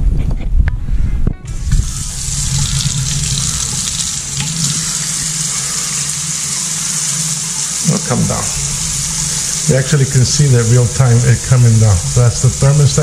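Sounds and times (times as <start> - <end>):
faucet running into metal bowl: 1.5 - 13.0.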